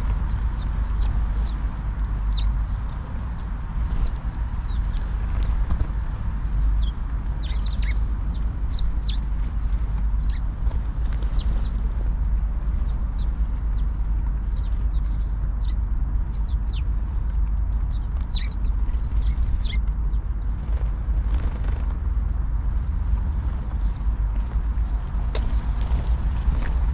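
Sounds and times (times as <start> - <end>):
sparrows chirping: 0.0 - 2.7, 3.3 - 10.5, 11.2 - 11.9, 12.6 - 22.0, 23.7 - 24.2, 25.2 - 26.9
steady low rumble: 0.0 - 26.9.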